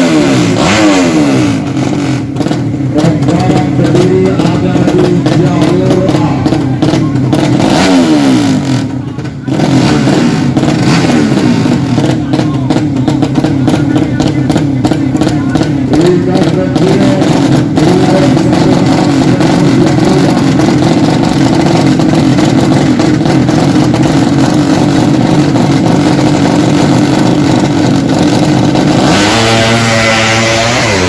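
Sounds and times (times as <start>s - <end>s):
engine popping: 0.0s - 31.0s
motorcycle engines revving: 0.0s - 31.0s.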